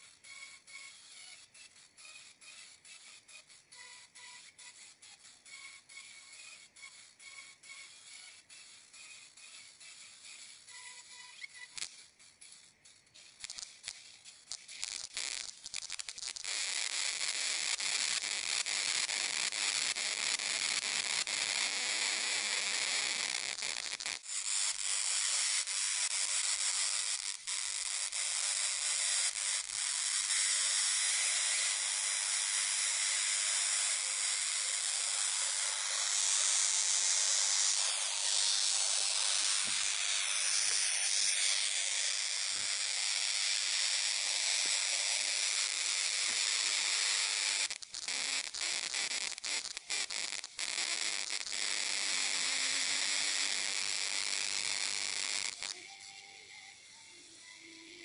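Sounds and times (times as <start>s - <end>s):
plasma arc high-pitched hiss: 0.0s - 58.0s.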